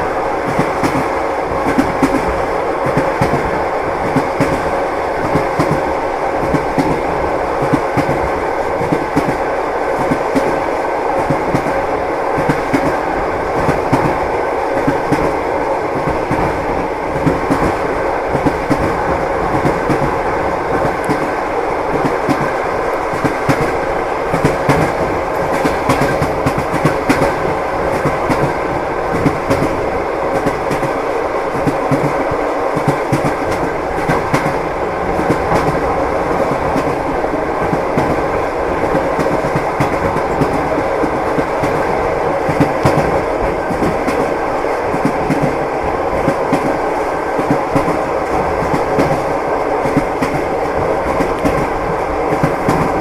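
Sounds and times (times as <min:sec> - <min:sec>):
train rumble: 0:00.0 - 0:53.0
train wheels clattering: 0:00.0 - 0:53.0.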